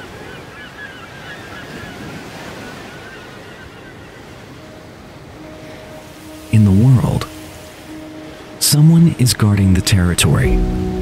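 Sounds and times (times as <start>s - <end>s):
birds calling: 0.0s - 11.0s
surf: 0.0s - 11.0s
wind: 0.0s - 11.0s.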